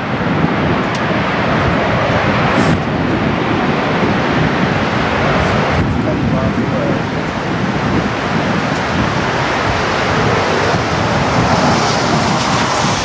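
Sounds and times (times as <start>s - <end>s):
strong wind rushing: 0.0s - 13.0s
wind buffeting microphone: 0.0s - 13.0s.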